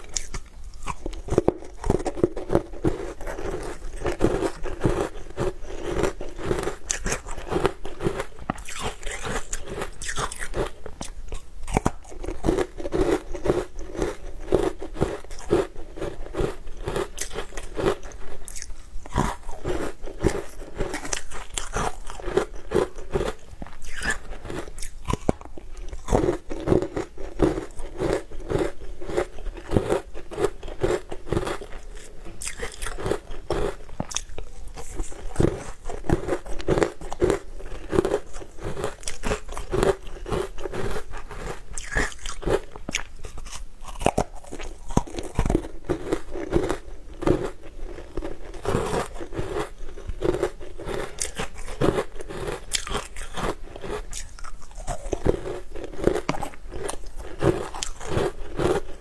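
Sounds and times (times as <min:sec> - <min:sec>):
crunching and chewing: 0:00.0 - 0:59.0.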